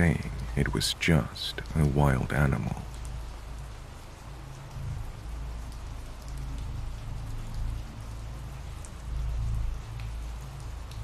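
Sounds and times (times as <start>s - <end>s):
raindrops ticking: 0.0s - 11.0s
steady rain: 0.0s - 11.0s.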